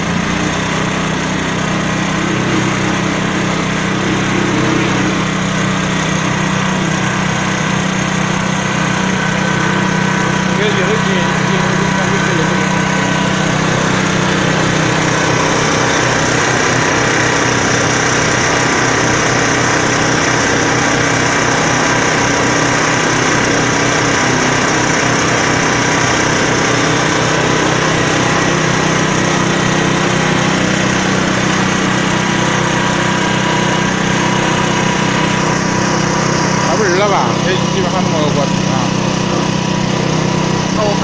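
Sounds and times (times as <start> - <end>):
diesel engine running: 0.0 - 41.0
mixing drum turning: 0.0 - 41.0.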